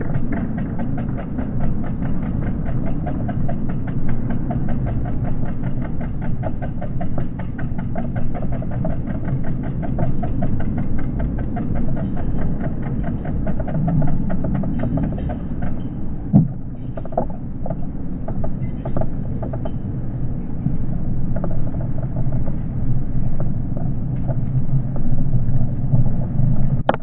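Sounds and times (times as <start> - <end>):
rapid light ticking: 0.0 - 27.0.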